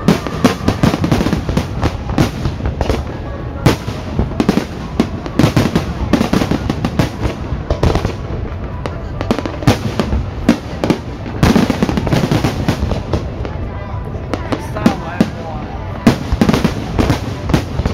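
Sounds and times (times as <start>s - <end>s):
fireworks bangs and crackles: 0.0s - 17.9s.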